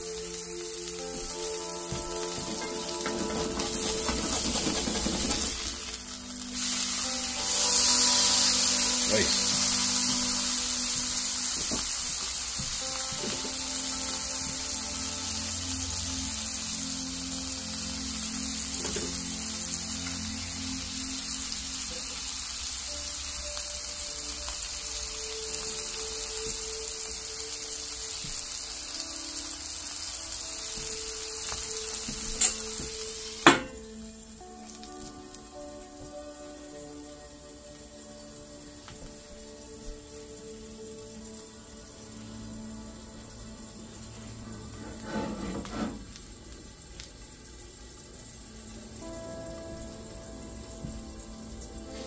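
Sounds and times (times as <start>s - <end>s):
food sizzling in a skillet: 0.0s - 52.0s.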